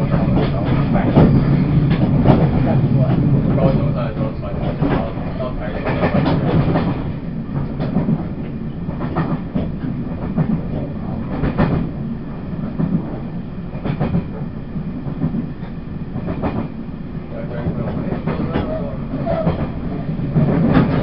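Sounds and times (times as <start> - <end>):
track knocks and clatters: 0.0 - 12.0, 12.6 - 16.8, 17.4 - 21.0
train wheels rumbling on rail: 0.0 - 21.0.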